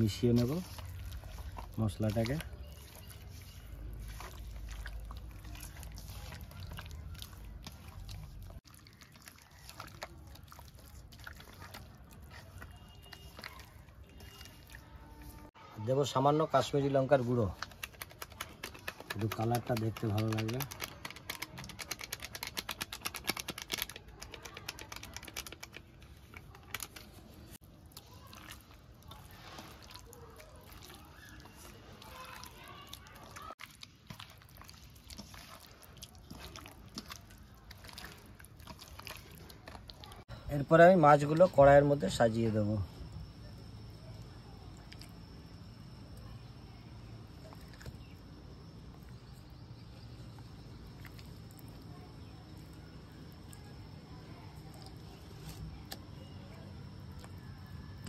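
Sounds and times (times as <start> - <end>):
soft wet rustle: 0.0 - 15.6, 24.9 - 57.6
hand squelching wet paste: 0.0 - 58.0.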